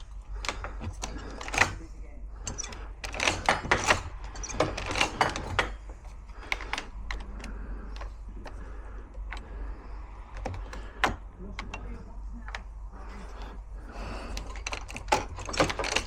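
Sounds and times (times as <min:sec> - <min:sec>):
metallic clicks of lock parts: 0:00.0 - 0:16.0.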